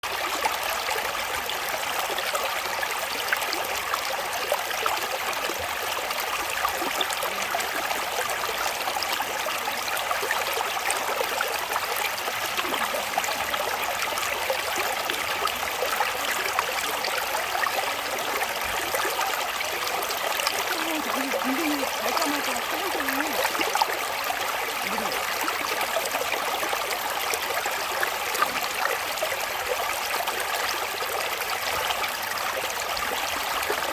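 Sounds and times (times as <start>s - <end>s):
stream flowing: 0.0s - 33.9s.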